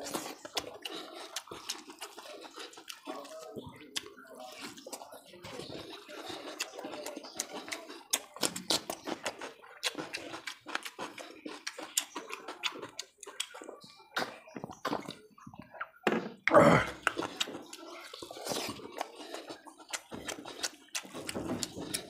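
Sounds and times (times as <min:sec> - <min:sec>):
man chewing wetly: 0:00.0 - 0:22.0.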